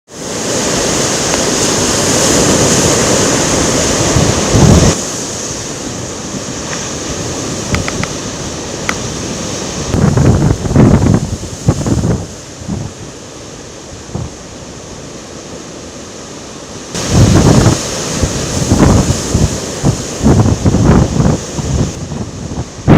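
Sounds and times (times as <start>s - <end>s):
strong wind buffeting microphone: 0.3s - 13.2s, 13.9s - 14.5s, 17.0s - 22.9s.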